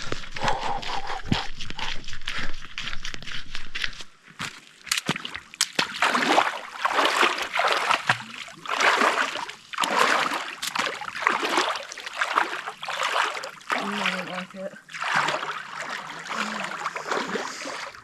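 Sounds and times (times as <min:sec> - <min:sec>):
lake water splashing: 0:00.0 - 0:18.0.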